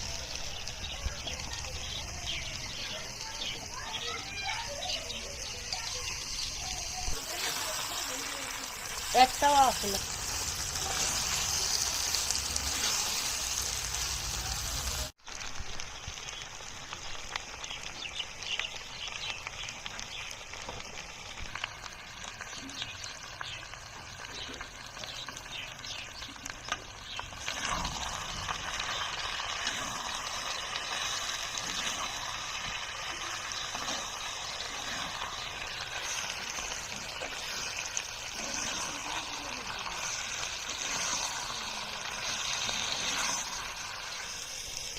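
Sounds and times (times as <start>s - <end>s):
food sizzling in oil: 0.0s - 44.9s.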